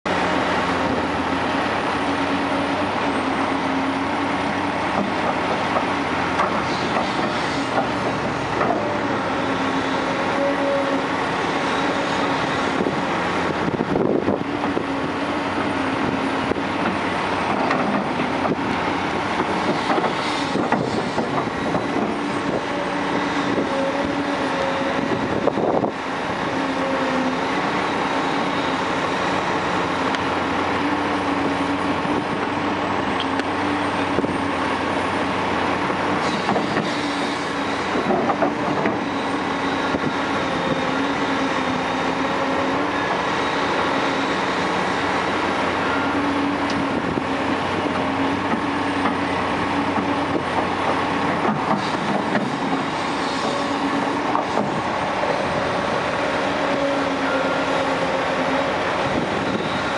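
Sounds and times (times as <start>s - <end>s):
excavator diesel engine under load: 0.1s - 59.9s.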